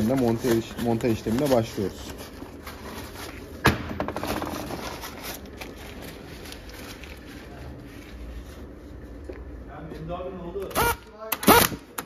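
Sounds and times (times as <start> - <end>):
faint workshop background: 0.0 - 12.0.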